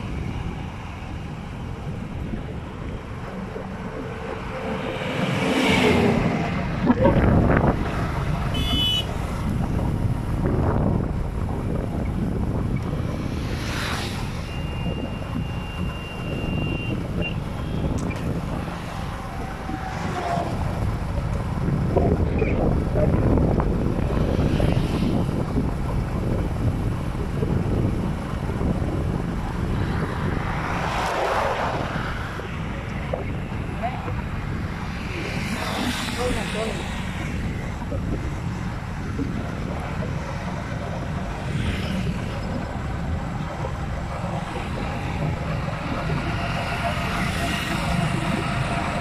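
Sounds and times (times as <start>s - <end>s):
vehicles whooshing past: 0.0s - 49.0s
wind rumble on microphone: 0.0s - 49.0s.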